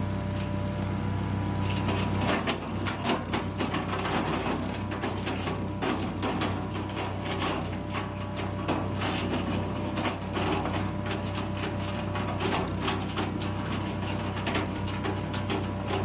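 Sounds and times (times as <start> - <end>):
wood chipper engine running: 0.0 - 16.0
wood crackling and rattling: 0.0 - 16.0.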